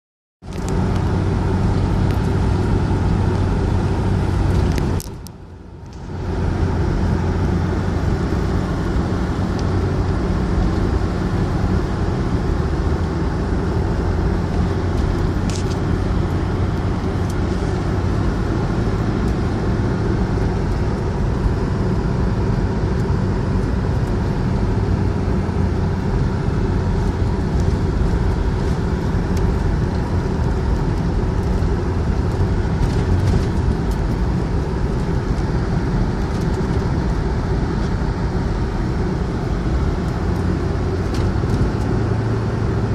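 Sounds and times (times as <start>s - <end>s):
road noise: 0.4s - 42.9s
vehicle engine hum: 0.4s - 42.9s.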